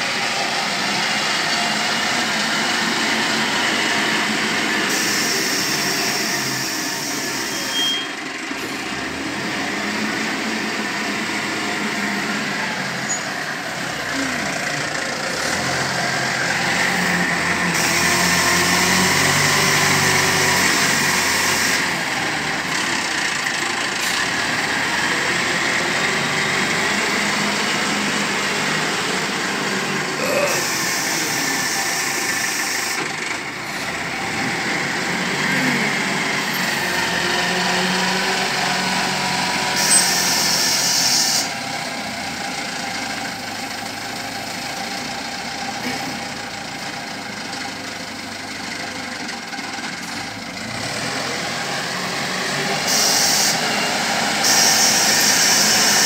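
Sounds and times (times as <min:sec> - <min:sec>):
wheel loader diesel engine: 0:00.0 - 0:56.0.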